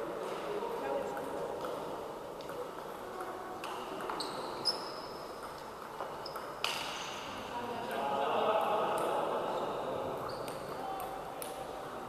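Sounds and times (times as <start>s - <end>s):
sports hall murmur: 0.0s - 12.0s.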